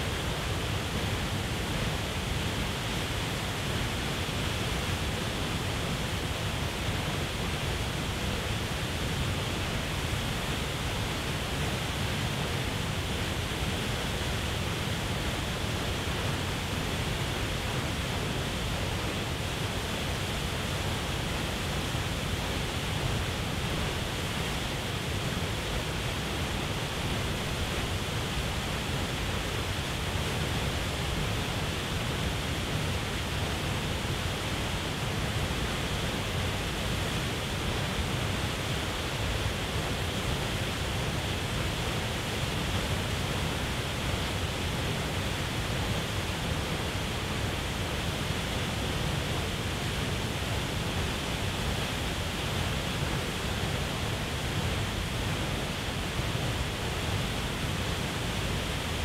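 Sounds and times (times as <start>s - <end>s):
waterfall rushing into a pool: 0.0s - 59.0s.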